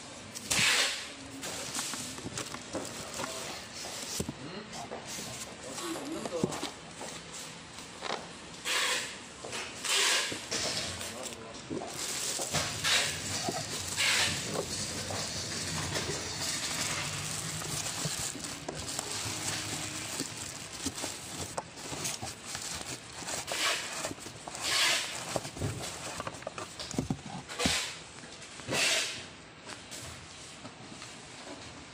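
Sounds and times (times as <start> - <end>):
plastic wrap rustling and crinkling: 0.3 - 8.2, 9.5 - 28.7.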